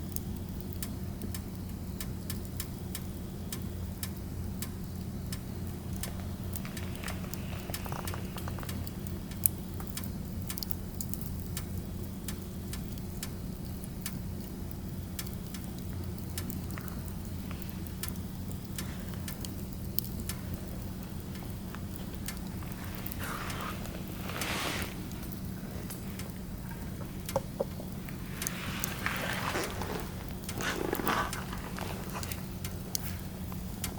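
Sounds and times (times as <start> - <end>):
firewood crackling: 0.0 - 33.9.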